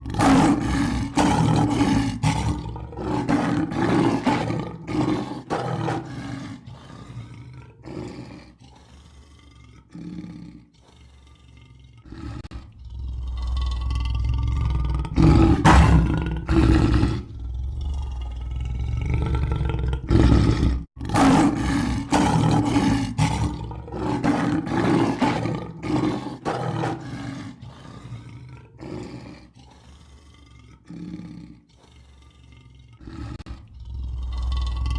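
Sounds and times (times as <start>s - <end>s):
lion roaring: 0.0s - 34.9s.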